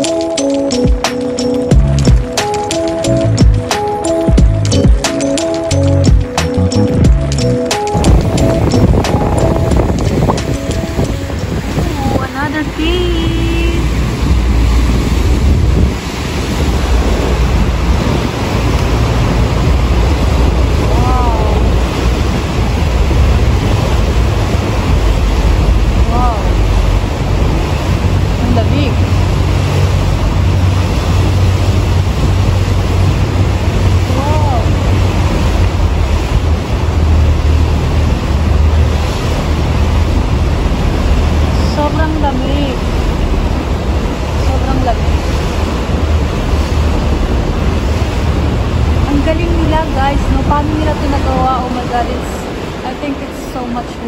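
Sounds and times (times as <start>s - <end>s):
motorboat engine drone: 0.0s - 54.0s
waves rushing around boat: 0.0s - 54.0s
wind buffeting microphone: 0.7s - 54.0s.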